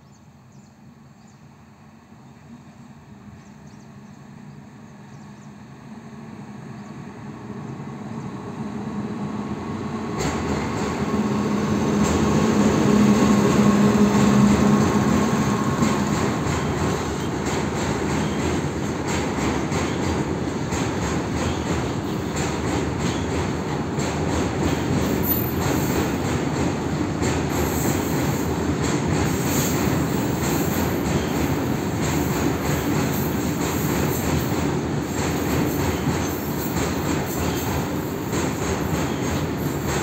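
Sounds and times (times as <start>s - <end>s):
electric locomotive hum: 0.1s - 40.0s.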